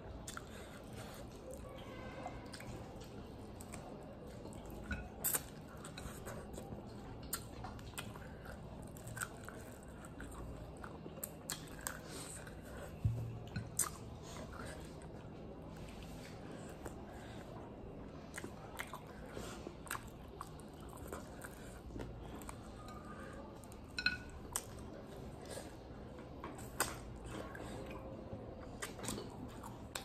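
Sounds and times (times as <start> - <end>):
person chewing food: 0.1 - 30.0.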